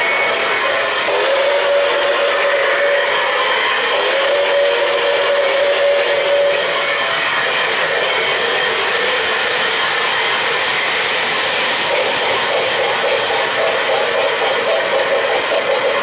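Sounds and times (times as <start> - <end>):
model train wheels and motors: 0.0 - 16.0.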